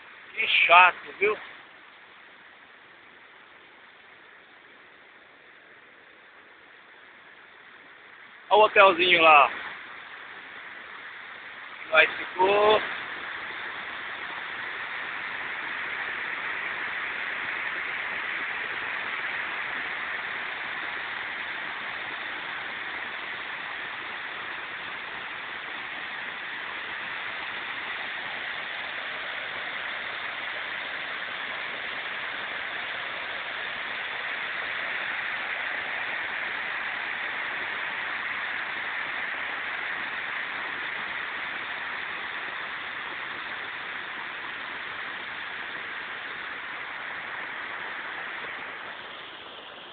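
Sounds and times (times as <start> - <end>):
waterfall rushing: 0.0 - 2.0, 4.8 - 49.9.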